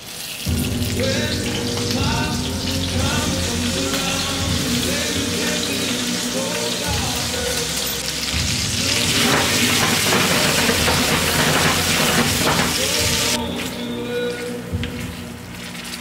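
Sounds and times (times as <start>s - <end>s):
tomatoes sizzling in a skillet: 0.0s - 13.4s
background music: 0.4s - 16.0s.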